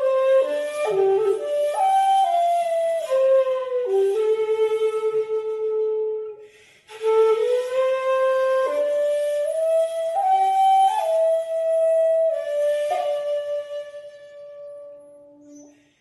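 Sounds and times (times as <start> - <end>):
flute playing slow melody: 0.0 - 15.9.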